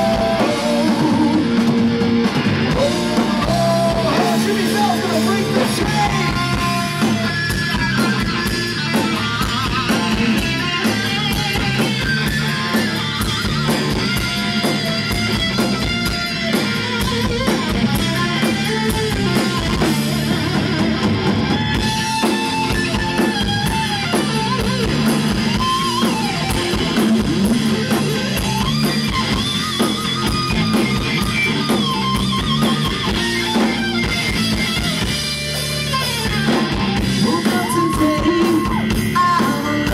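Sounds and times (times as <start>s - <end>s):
bass guitar: 0.0s - 39.9s
drum kit: 0.0s - 39.9s
lead electric guitar: 0.0s - 39.9s.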